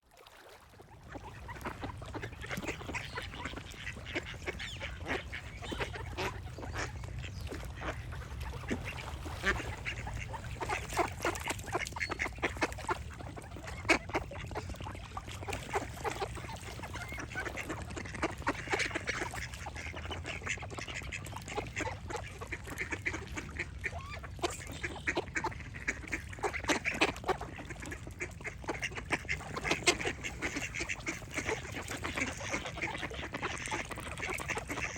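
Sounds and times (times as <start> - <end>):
flock of ducks quacking: 0.9 - 34.9.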